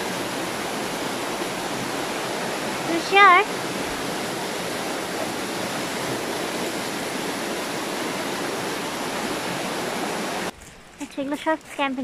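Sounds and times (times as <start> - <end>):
mountain stream rushing: 0.0 - 11.7.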